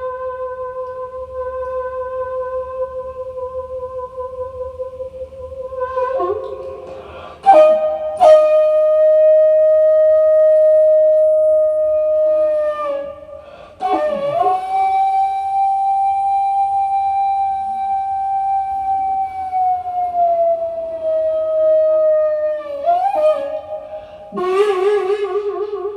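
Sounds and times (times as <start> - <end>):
bamboo flute solo: 0.0 - 25.9.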